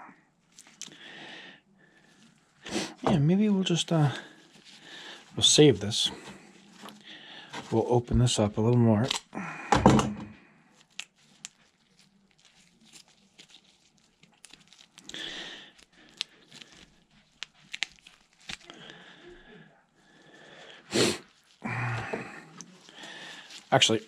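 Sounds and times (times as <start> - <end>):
crinkling rustles: 0.4 - 1.0, 3.2 - 9.3, 10.8 - 24.0.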